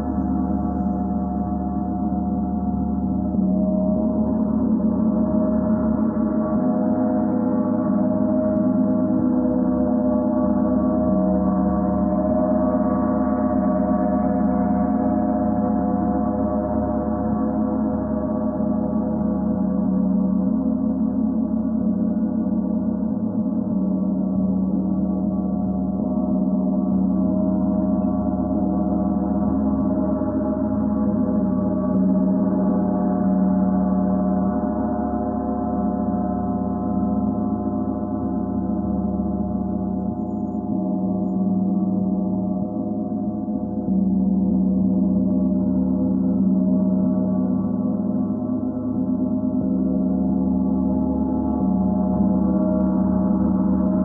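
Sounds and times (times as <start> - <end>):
gong played with soft mallets: 0.0 - 54.0.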